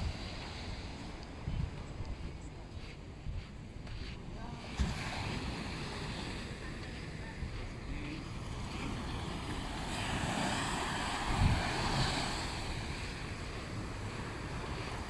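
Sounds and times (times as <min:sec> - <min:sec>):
sea waves washing on beach: 0:00.0 - 0:15.0
wind buffeting microphone: 0:00.0 - 0:15.0.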